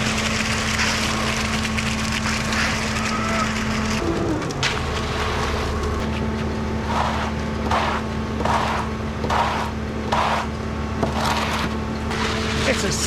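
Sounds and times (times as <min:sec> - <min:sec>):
diesel engine running: 0:00.0 - 0:13.0
scraping of wet concrete: 0:00.0 - 0:13.0.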